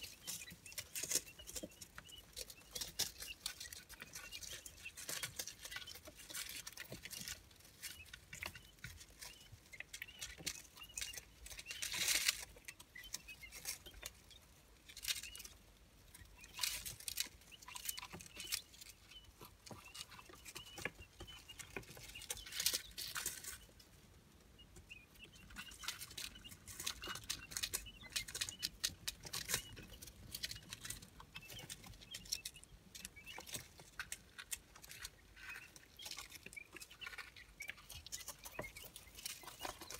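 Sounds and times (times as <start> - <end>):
chicks scratching in paper bedding: 0.0 - 39.9
faint high peeping: 0.0 - 39.9.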